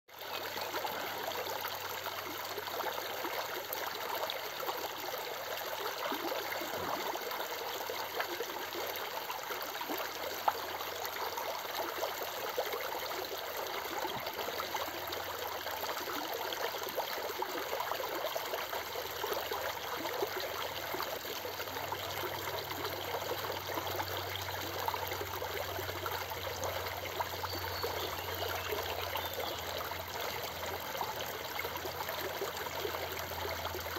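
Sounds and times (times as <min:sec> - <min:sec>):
creek water splashing over rocks: 0:00.1 - 0:33.9.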